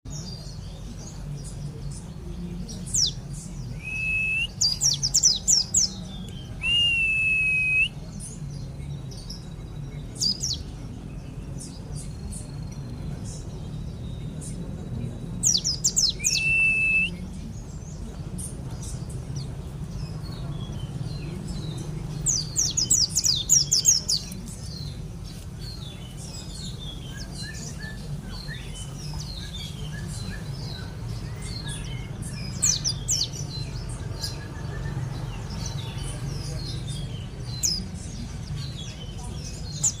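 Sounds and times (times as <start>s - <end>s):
white-eye bird singing: 0.1s - 40.0s.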